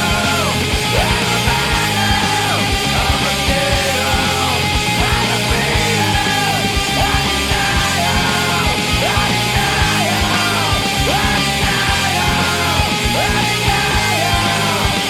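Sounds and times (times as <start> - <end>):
distorted electric guitar lead: 0.0 - 15.0.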